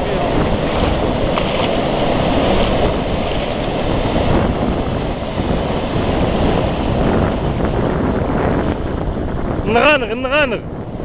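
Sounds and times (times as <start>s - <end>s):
sea surf: 0.0s - 11.0s
wind rushing over microphone: 0.0s - 11.0s.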